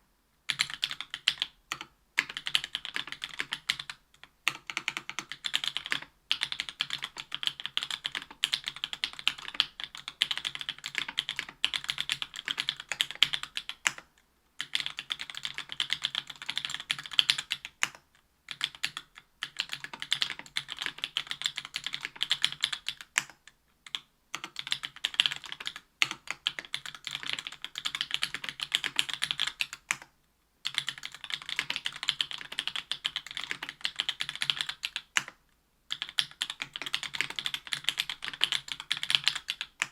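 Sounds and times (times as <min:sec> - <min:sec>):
mechanical keyboard typing: 0:00.5 - 0:39.9.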